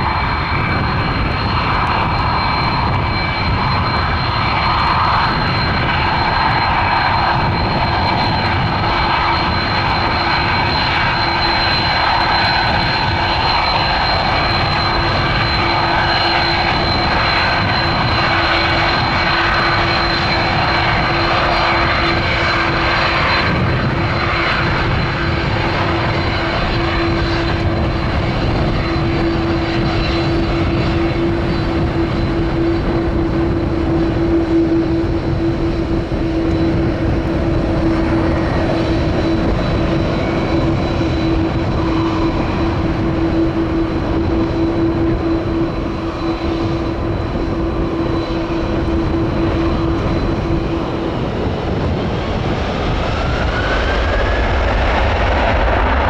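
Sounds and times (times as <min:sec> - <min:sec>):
high steady whine: 0:00.0 - 0:56.0
jet engine roar: 0:00.0 - 0:56.0.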